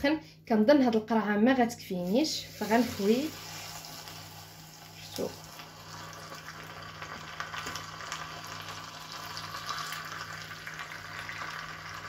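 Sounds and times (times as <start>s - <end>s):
hot oil sizzling and crackling: 2.0s - 12.0s.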